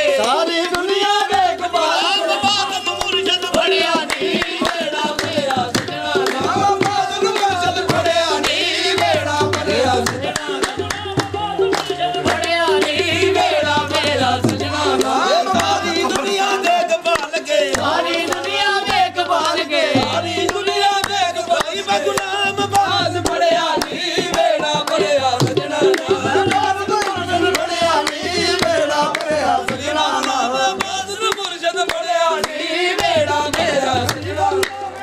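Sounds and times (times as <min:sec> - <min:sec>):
group singing devotional song: 0:00.0 - 0:35.0
hand drums: 0:00.0 - 0:35.0.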